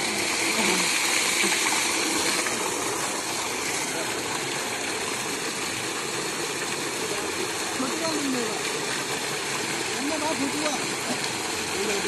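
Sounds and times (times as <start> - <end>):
water gushing into a tank: 0.0 - 12.0.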